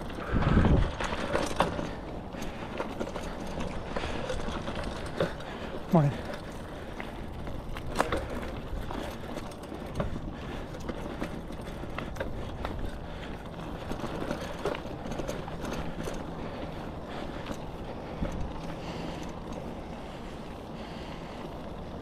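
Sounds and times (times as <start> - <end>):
bicycle tyres rolling on dirt: 0.0 - 22.0
bike rattling over bumps: 0.0 - 22.0.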